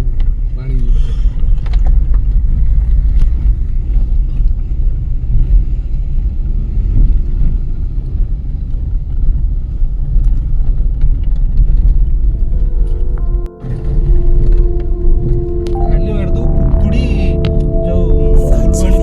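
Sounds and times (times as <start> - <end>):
vehicle engine and road rumble: 0.0 - 17.9.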